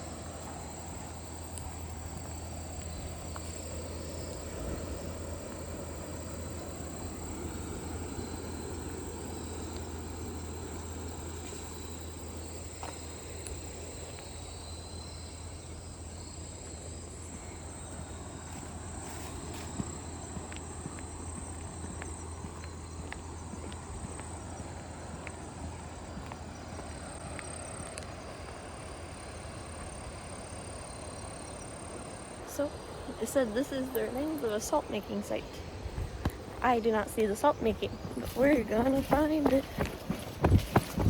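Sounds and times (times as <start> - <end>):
insects chirring: 0.0 - 41.0
low rumbling outdoor noise: 0.0 - 41.0.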